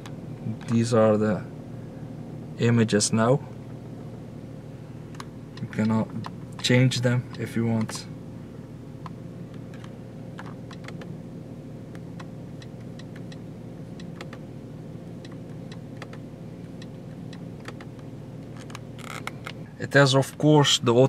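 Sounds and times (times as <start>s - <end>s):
low cabin hum: 0.0s - 21.0s.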